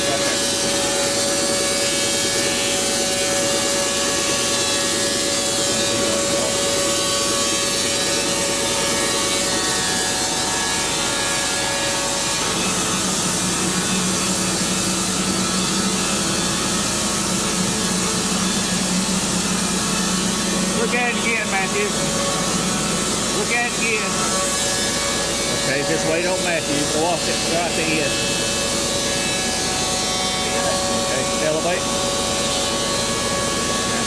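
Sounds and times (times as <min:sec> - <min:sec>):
band saw cutting log: 0:00.0 - 0:34.0.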